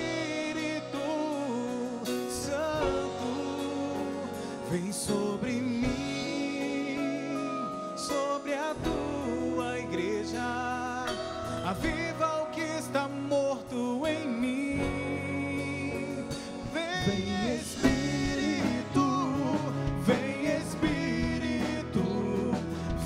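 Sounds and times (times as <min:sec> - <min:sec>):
instrumental accompaniment: 0:00.0 - 0:23.0
person singing worship song: 0:00.0 - 0:23.0.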